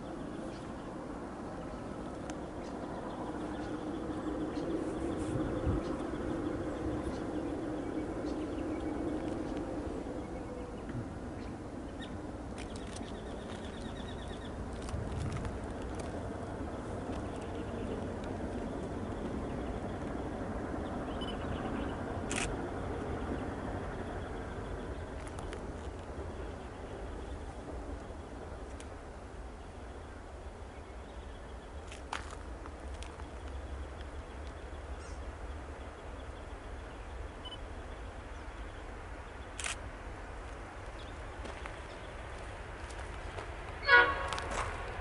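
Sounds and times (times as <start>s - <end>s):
distant locomotives rumbling: 0.0s - 45.0s.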